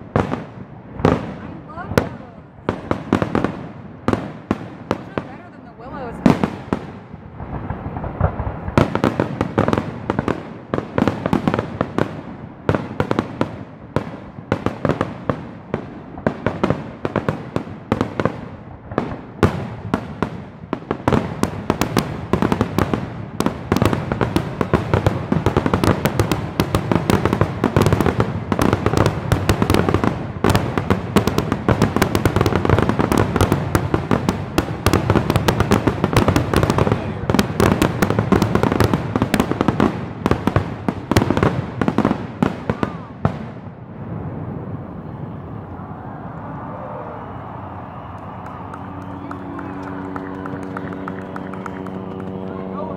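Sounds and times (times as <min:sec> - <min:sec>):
fireworks bangs and crackles: 0:00.0 - 0:46.5, 0:47.1 - 0:52.9.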